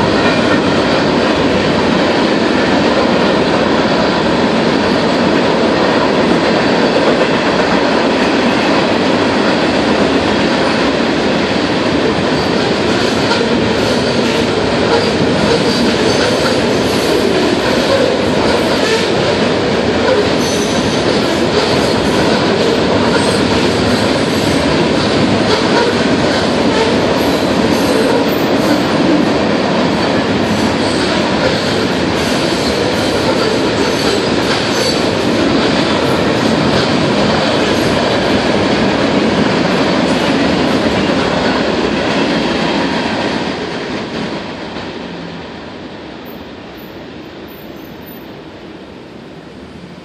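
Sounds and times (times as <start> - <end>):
freight train wheels clattering: 0.0 - 45.0.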